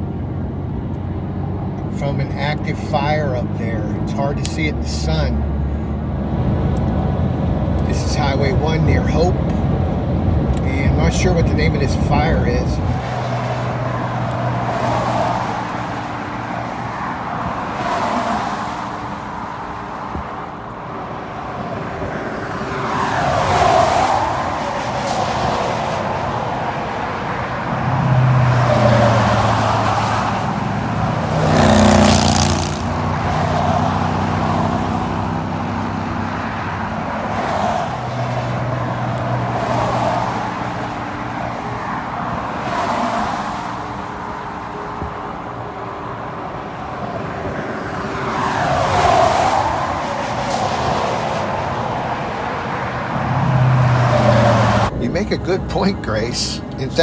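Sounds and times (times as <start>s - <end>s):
engine and road noise: 0.0s - 57.0s
vehicles passing: 0.0s - 57.0s.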